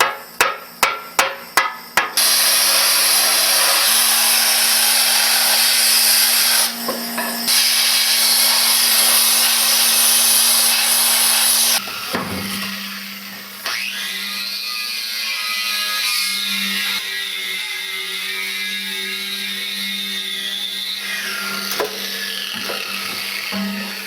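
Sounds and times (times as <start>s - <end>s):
power tool running: 2.2s - 24.0s.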